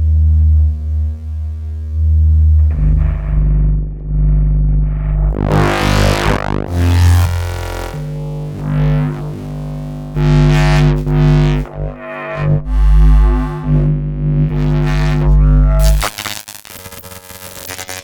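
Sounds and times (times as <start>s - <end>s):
humming electric swells: 0.3s - 18.0s.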